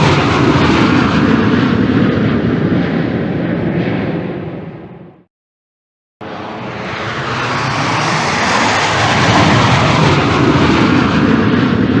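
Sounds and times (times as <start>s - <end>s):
jet engine rushing: 0.0s - 5.3s, 6.2s - 12.0s.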